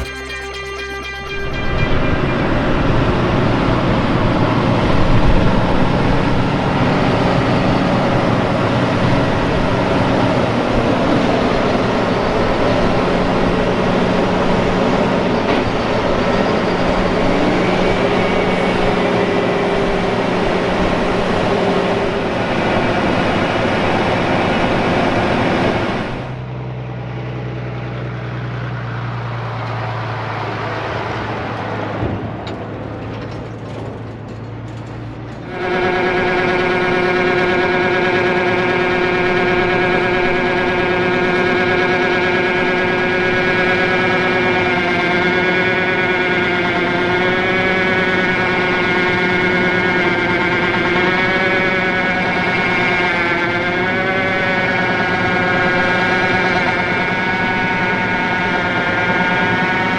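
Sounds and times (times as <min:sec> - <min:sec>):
harvest machinery engine running: 0:00.0 - 0:59.9.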